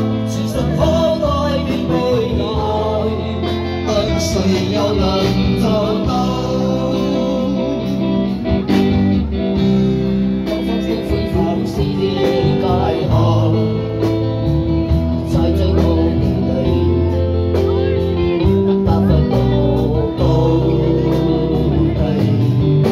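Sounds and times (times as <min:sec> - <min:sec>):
man singing into a microphone: 0:00.0 - 0:08.4, 0:10.4 - 0:22.9
electric guitars: 0:00.0 - 0:22.9.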